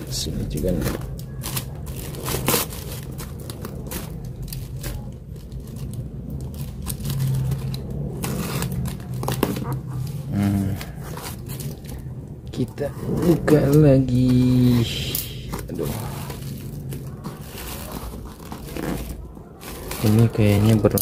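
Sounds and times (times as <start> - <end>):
steady low hum: 0.0 - 20.9
plastic wrapping crinkling: 0.0 - 21.0
scratching: 0.0 - 21.0.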